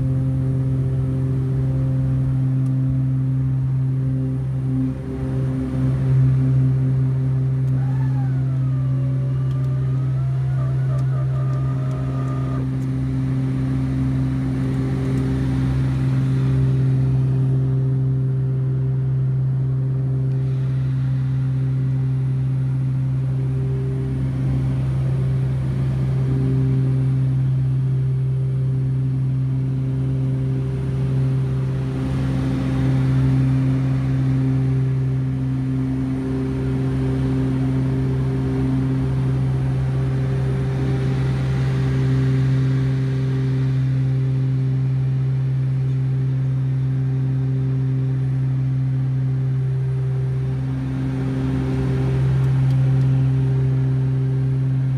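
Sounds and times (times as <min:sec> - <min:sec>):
propeller drone in cockpit: 0:00.0 - 0:54.9.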